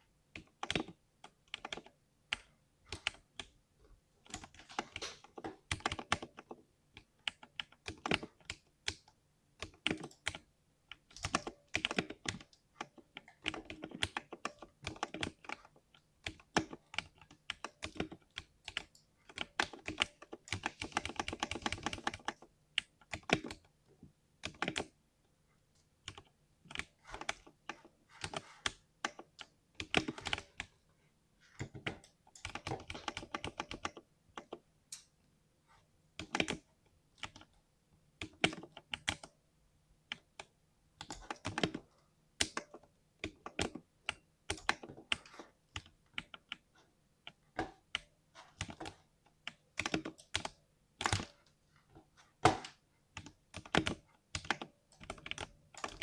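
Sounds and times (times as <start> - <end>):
mechanical keyboard typing: 0.4 - 3.6, 4.3 - 23.7, 24.4 - 25.0, 26.0 - 30.7, 31.6 - 35.1, 36.2 - 37.5, 38.2 - 39.4, 40.1 - 46.7, 47.3 - 51.4, 52.4 - 56.0.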